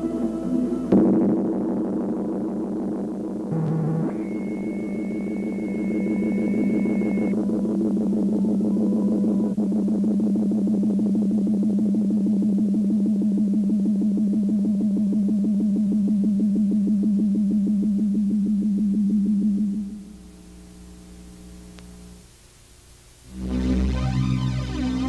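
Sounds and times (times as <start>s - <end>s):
synthesizer drone with pulsing tremolo: 0.0s - 20.8s, 23.3s - 25.0s.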